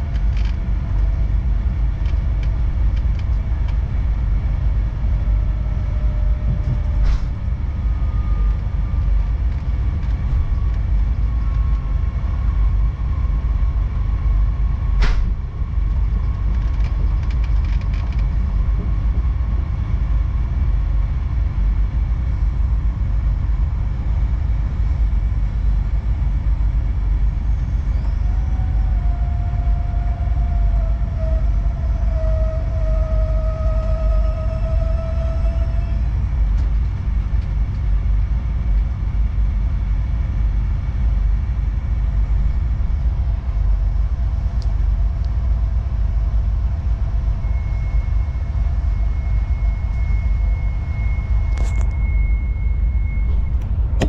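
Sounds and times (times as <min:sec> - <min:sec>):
faint whine: 0:00.0 - 0:54.0
train rumble inside carriage: 0:00.0 - 0:54.0.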